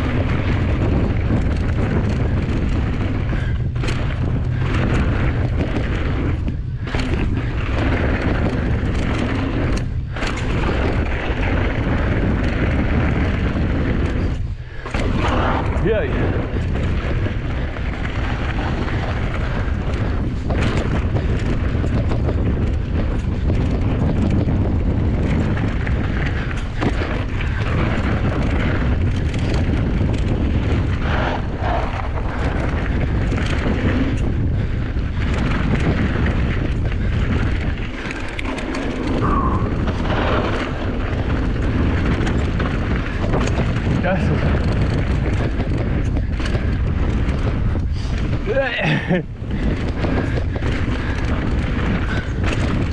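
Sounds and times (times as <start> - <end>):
bike knocks and rattles: 0.0 - 52.9
tyre rumble on dirt: 0.0 - 52.9
wind buffeting microphone: 0.0 - 52.9.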